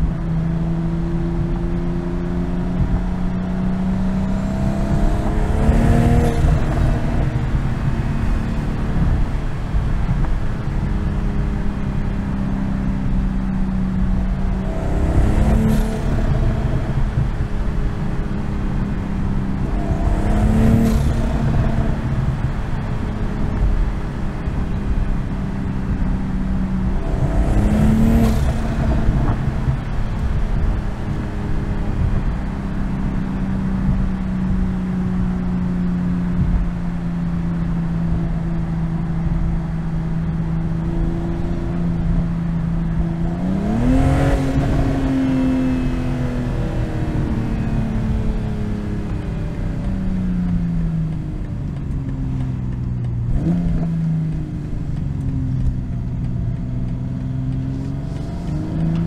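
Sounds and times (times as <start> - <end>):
car engine revving: 0.0 - 59.0
tyre and road noise: 0.0 - 59.0.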